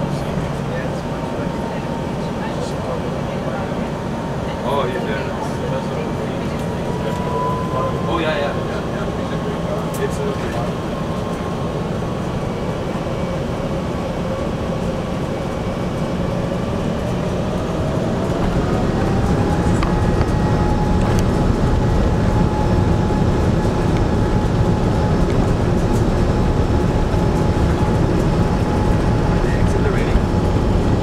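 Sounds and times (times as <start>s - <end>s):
jet engine whine rising in pitch: 0.0s - 31.0s
low cabin rumble: 0.0s - 31.0s.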